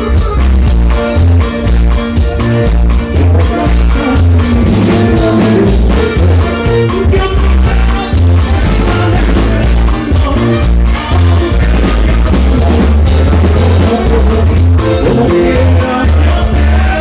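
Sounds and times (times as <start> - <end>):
live band dance music: 0.0 - 17.0.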